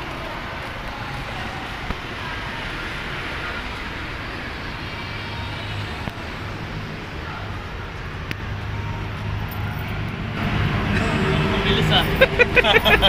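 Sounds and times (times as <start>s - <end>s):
engine hum: 0.0s - 13.0s
road traffic: 0.0s - 13.0s.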